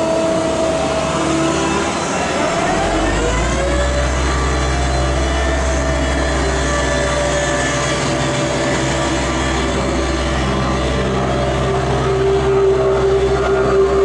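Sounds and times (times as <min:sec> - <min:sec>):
heavy machinery engine whining: 0:00.0 - 0:14.0.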